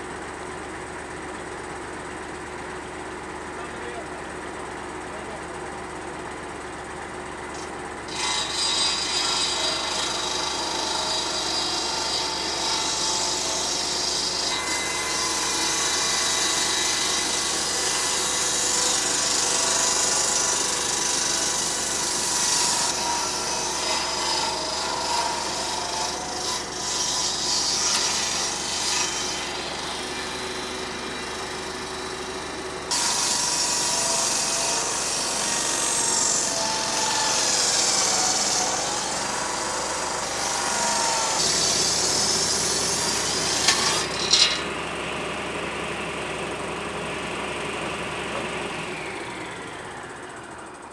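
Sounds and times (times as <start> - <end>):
circular saw cutting wood: 7.5 - 50.9.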